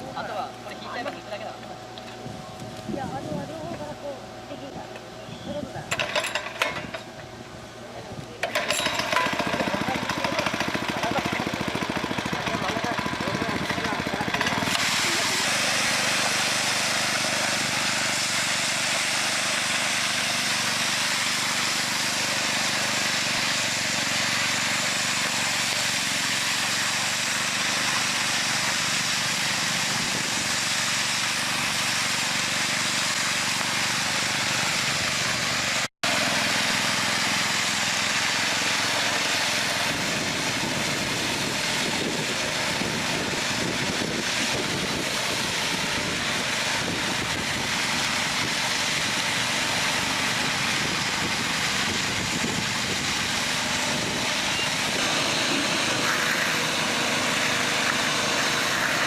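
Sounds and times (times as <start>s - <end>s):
construction machinery engine noise: 0.0s - 59.0s.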